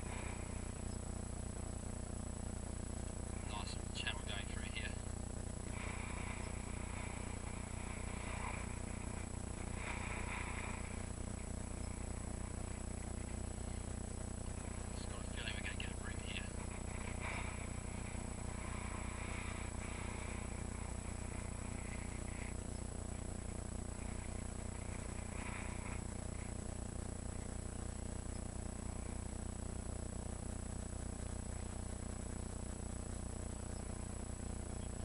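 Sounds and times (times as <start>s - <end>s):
insects chirring: 0.0s - 35.0s
steady low hum: 0.0s - 35.0s.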